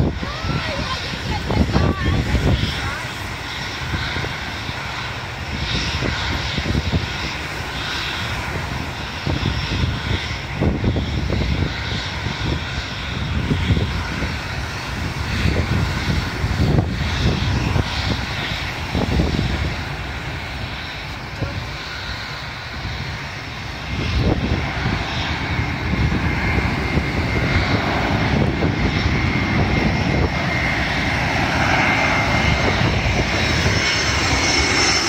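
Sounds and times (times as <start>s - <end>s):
distant aeroplane engine drone: 0.0s - 35.0s
low rumble: 0.0s - 35.0s.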